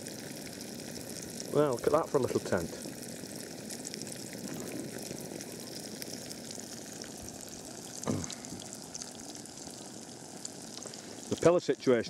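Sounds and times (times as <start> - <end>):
burger sizzling in a frying pan: 0.0 - 12.0.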